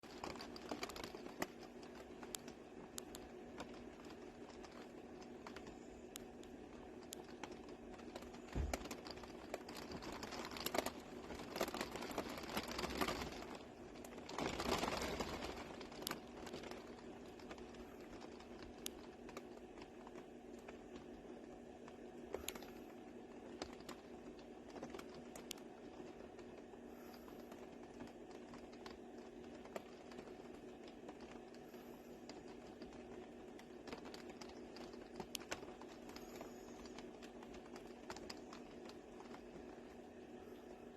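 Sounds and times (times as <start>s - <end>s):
rain on a metal roof: 0.0s - 5.7s, 6.4s - 40.3s
faint steady hum: 0.0s - 40.9s.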